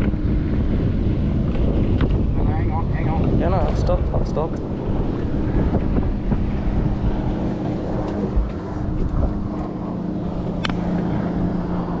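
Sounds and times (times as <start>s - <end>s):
electric trolling motor humming: 0.0s - 12.0s
wind noise on microphone: 0.0s - 12.0s.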